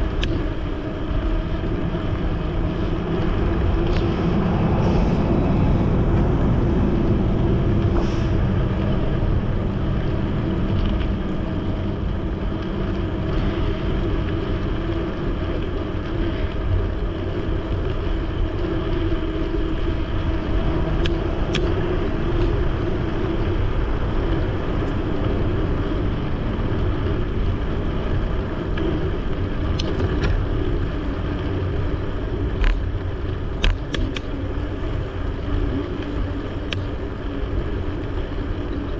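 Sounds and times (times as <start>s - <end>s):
bicycle tyres rolling: 0.0s - 38.9s
wind buffeting microphone: 0.0s - 38.9s.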